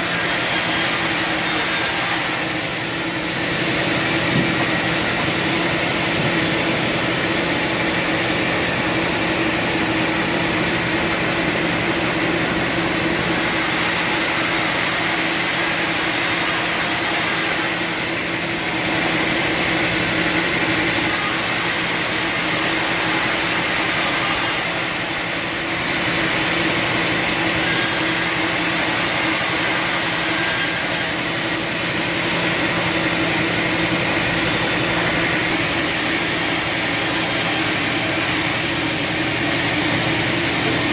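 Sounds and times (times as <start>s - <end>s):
sawmill machine hum: 0.0s - 40.9s.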